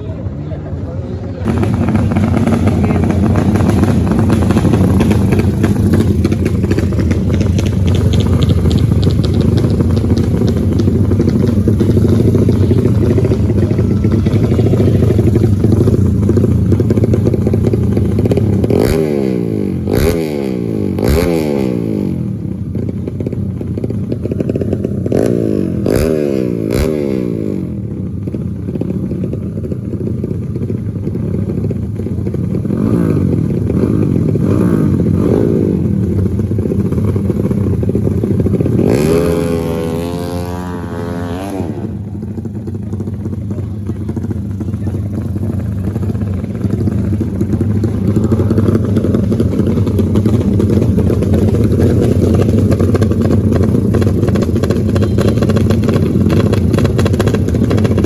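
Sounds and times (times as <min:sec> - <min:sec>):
motorcycle engines running: 0:00.0 - 0:58.0
motorcycles revving hard: 0:01.3 - 0:58.0.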